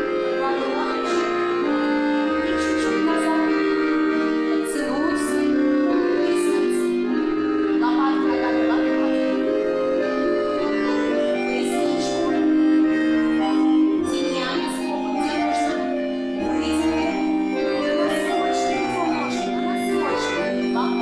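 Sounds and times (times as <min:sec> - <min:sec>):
accordion dance tune: 0:00.0 - 0:21.0.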